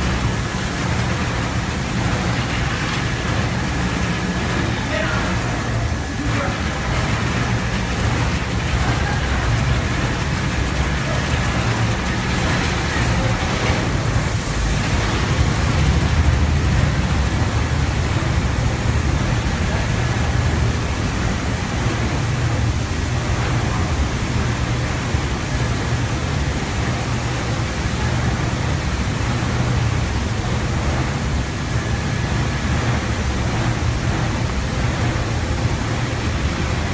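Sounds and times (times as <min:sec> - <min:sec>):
machine motor rumble: 0:00.0 - 0:36.9.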